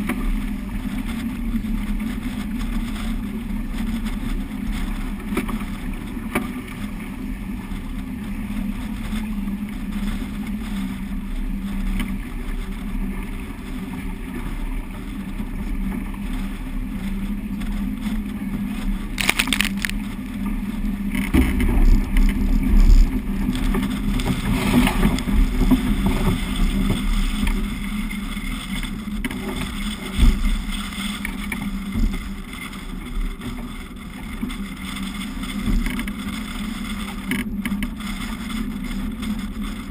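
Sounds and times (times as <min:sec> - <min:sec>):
water rushing along a hull: 0:00.0 - 0:39.9
wind rumble on microphone: 0:00.0 - 0:39.9.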